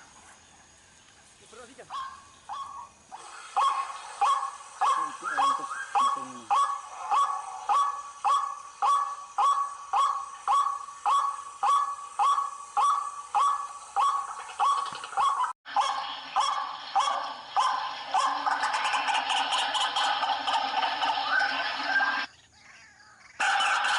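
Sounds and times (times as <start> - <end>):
waterhen harsh calls: 1.8 - 22.3, 23.4 - 23.9.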